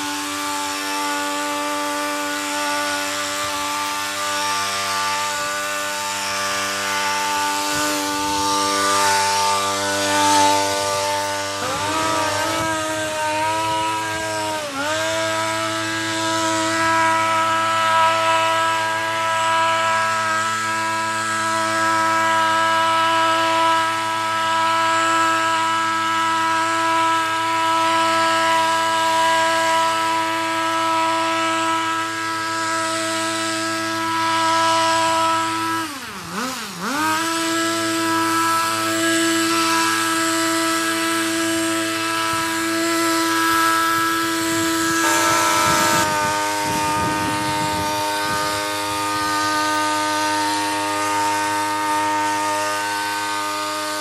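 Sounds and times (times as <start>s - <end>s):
hedge trimmer engine running: 0.0s - 54.0s.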